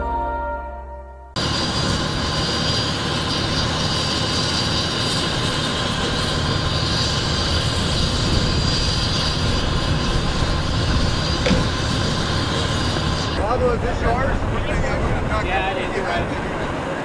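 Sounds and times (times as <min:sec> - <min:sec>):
diesel engines idling: 0:01.4 - 0:17.0.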